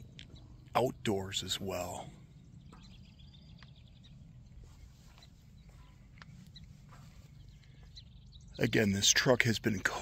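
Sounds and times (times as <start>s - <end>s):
faint bird chirps: 0.0s - 10.0s
steady low rumble: 0.0s - 10.0s.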